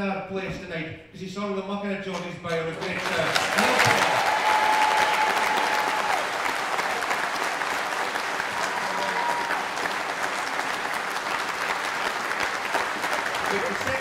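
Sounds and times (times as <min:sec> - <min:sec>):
audience applause: 0:02.7 - 0:14.0.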